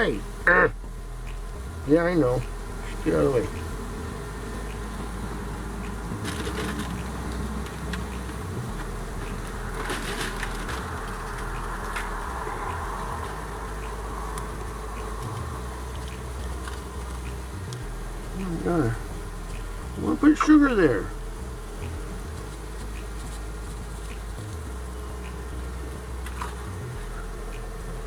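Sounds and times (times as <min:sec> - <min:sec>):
honeybees buzzing: 0:00.0 - 0:28.0
rustling: 0:00.0 - 0:28.0.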